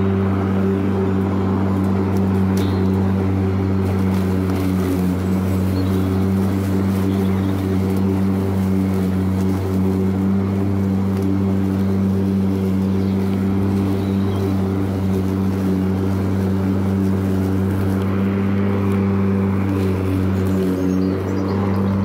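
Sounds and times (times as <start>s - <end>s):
electric lawn mower humming: 0.0s - 22.0s.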